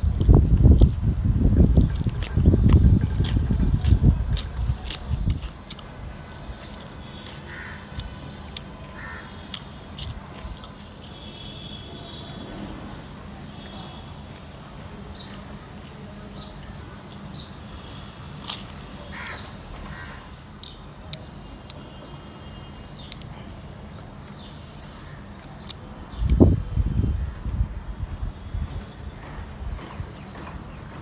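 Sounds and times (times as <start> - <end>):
chewing and biting: 0.0 - 21.9, 24.1 - 27.4, 28.3 - 31.0.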